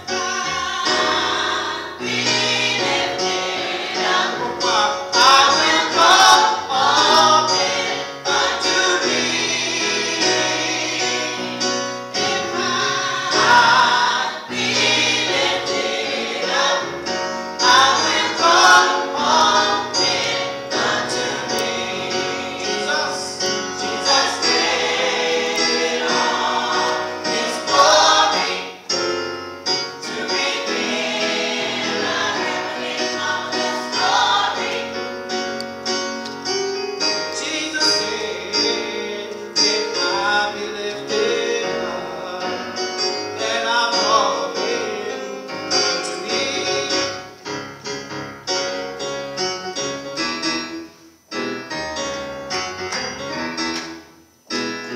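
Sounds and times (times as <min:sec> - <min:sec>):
women's choir singing gospel: 0:00.0 - 0:29.2, 0:29.8 - 0:35.6, 0:37.2 - 0:47.2
organ chords: 0:00.0 - 0:54.9.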